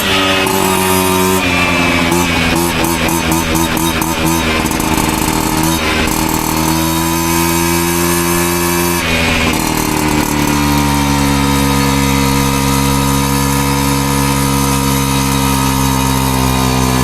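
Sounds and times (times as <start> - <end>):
moped engine running: 0.0 - 17.0.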